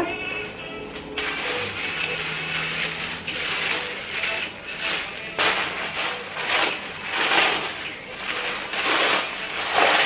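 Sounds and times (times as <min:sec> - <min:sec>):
plastic bag crinkling: 0:01.2 - 0:10.0.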